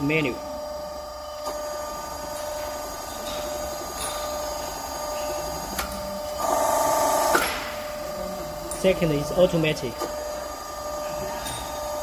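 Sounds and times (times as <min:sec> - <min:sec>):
hydraulic crimping machine humming: 0:00.0 - 0:12.0.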